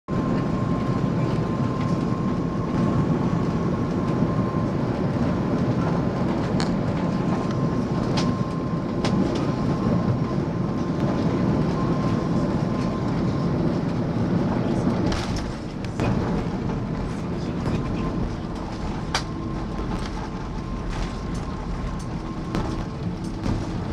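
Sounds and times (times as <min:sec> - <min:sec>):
airliner engines rumbling: 0:00.1 - 0:23.9
thin steady whine: 0:00.1 - 0:23.9.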